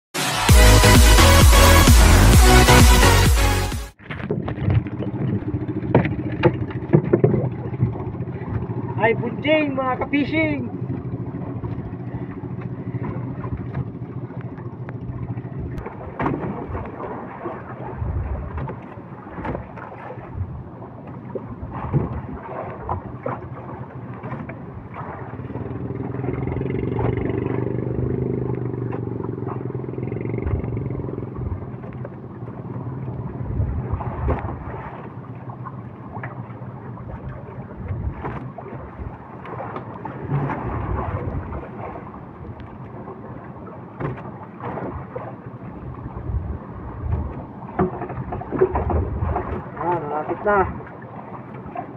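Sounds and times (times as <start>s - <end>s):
boat engine running: 0.2s - 51.9s.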